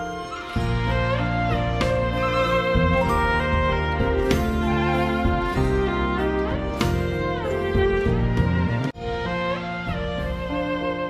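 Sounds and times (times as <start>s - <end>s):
instrumental music with bass: 0.6s - 11.0s.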